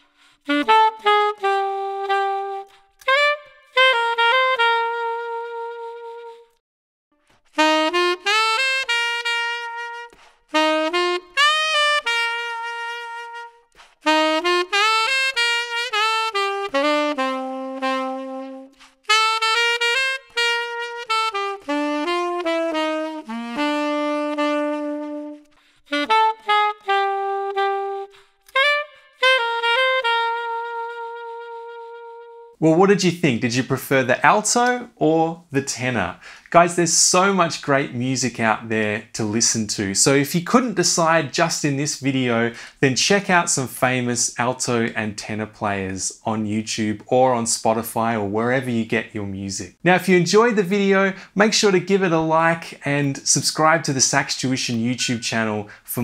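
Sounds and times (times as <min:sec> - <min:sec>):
solo saxophone jazz phrases: 0:00.0 - 0:06.6, 0:07.5 - 0:56.0.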